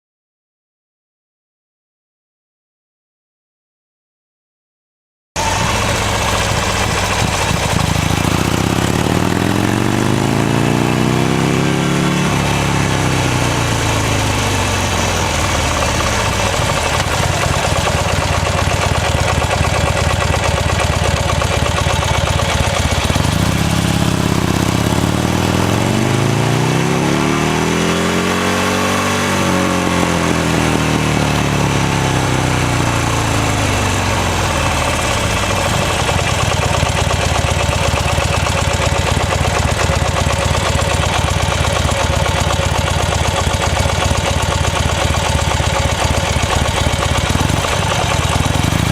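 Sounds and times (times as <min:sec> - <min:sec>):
motorcycle engine revving: 0:05.4 - 0:48.9.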